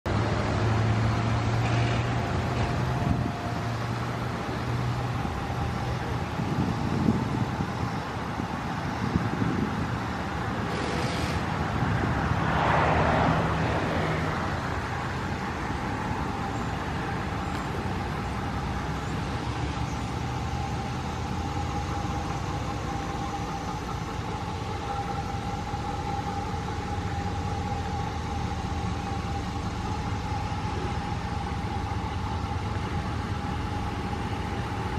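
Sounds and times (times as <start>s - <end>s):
pickup truck engine idling: 0.1s - 34.9s.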